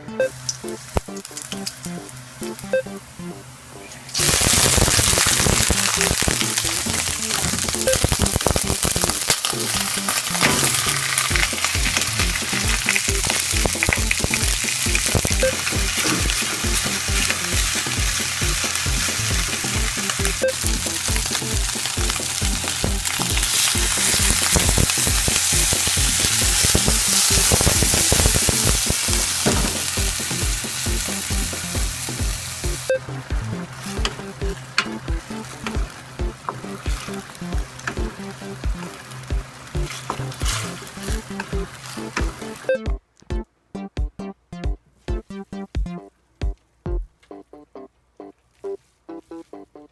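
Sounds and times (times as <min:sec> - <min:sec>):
food sizzling in a pan: 0:00.3 - 0:02.6, 0:04.2 - 0:32.9, 0:33.6 - 0:42.7.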